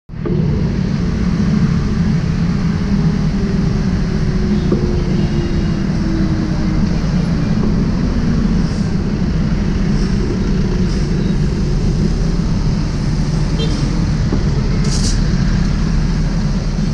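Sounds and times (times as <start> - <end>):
city street traffic: 0.1 - 16.9
motorcycle engine running: 0.1 - 16.9.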